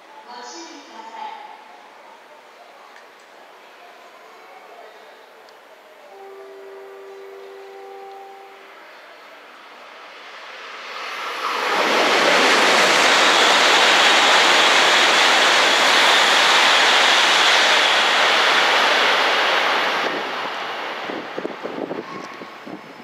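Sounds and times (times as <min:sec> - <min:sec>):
high-speed train passing: 0:01.4 - 0:23.0.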